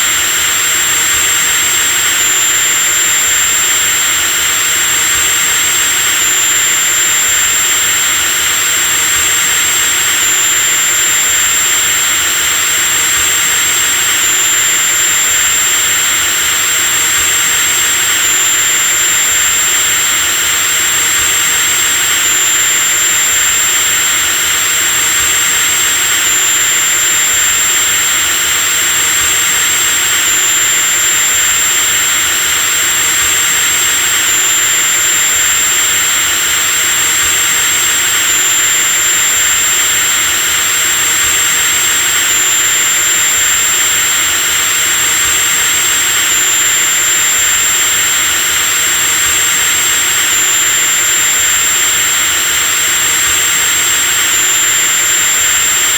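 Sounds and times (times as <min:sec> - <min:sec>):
electric drill motor whining: 0:00.0 - 0:55.9.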